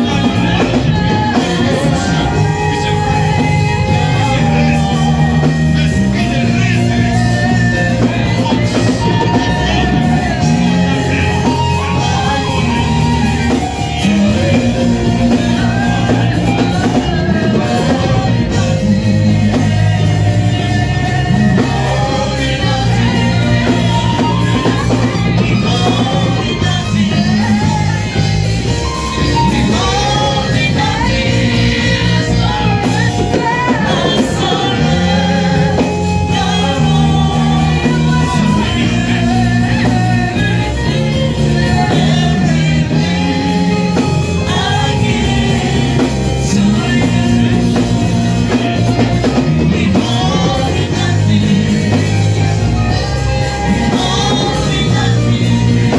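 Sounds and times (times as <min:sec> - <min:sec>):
band playing worship song: 0:00.0 - 0:55.9
voices singing: 0:00.0 - 0:55.9.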